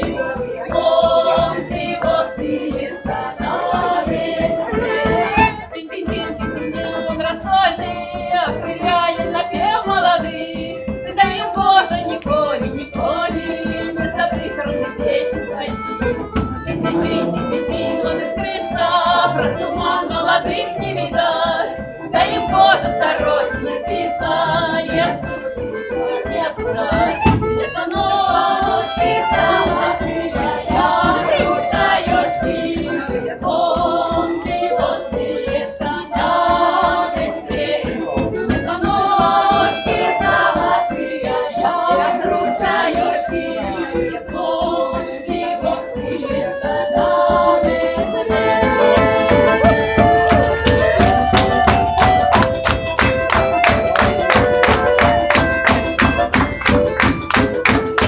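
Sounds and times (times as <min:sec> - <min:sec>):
instrumental accompaniment: 0:00.0 - 0:58.0
rhythmic clapping: 0:00.0 - 0:58.0
women singing folk song: 0:00.0 - 0:58.0.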